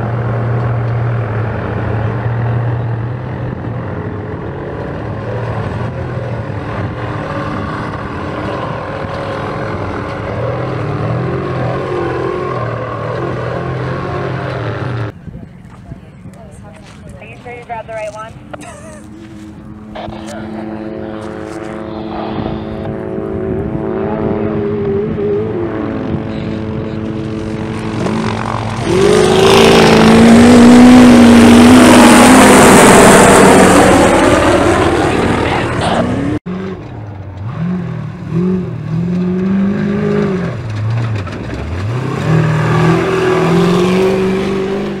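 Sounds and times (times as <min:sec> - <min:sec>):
race car engine revving: 0:00.0 - 0:15.1, 0:19.1 - 0:45.0.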